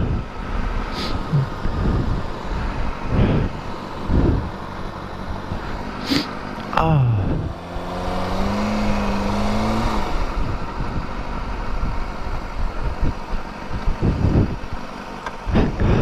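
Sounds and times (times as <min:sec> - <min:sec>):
wind noise on microphone: 0:00.0 - 0:04.6, 0:07.0 - 0:16.0
motorcycle engine running: 0:00.0 - 0:16.0.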